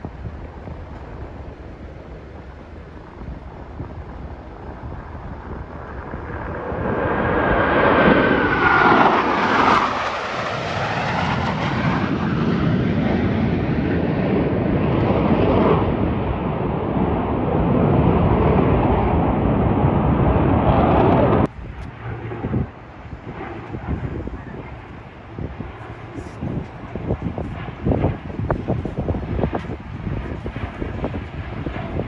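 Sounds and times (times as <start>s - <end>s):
falling jet whine: 0.0s - 32.0s
jets roaring past: 0.0s - 32.0s.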